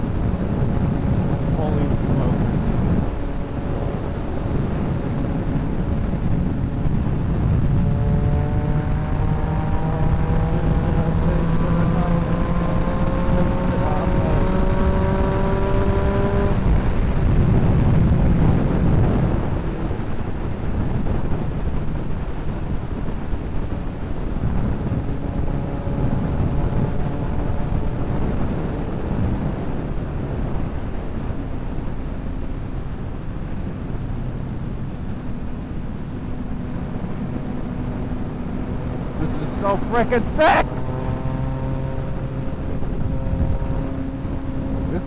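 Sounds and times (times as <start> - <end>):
motorcycle engine running: 0.0 - 45.0
wind rushing over microphone: 0.0 - 45.0.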